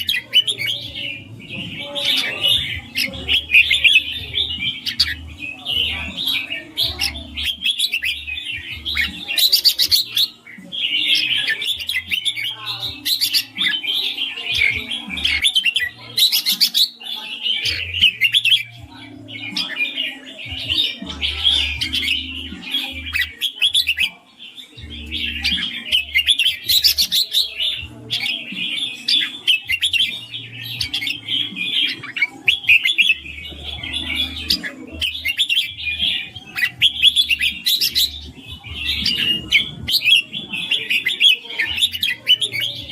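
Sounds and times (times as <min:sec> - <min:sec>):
bird chirping song: 0:00.0 - 0:42.9.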